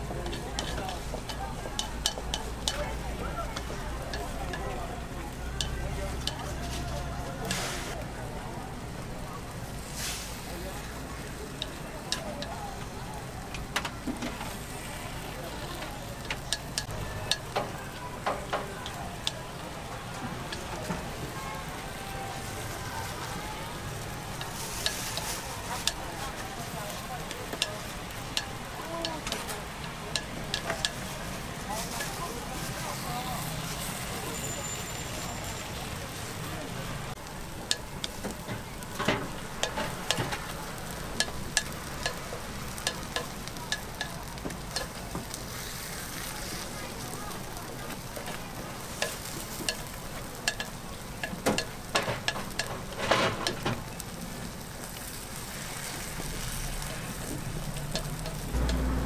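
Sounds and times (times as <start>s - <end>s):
batter sizzling: 0.0s - 59.0s.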